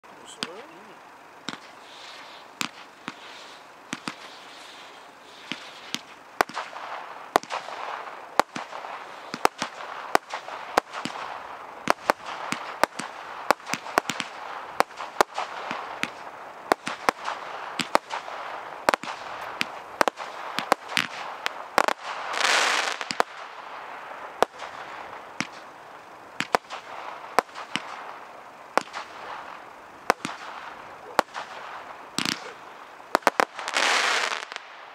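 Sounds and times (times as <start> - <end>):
firework hissing: 0.0 - 34.9
glitter crackle: 0.0 - 34.9
firework launch thumps and bursts: 0.3 - 34.9.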